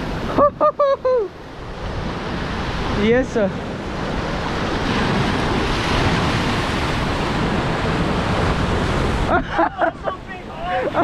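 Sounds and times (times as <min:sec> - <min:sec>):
ocean surf washing on shore: 0:00.0 - 0:11.0
wind buffeting microphone: 0:01.5 - 0:11.0.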